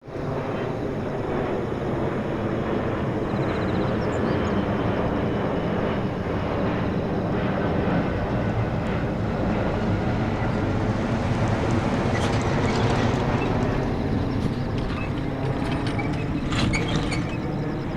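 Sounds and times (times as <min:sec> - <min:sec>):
jet engines rumbling: 0:00.0 - 0:17.9.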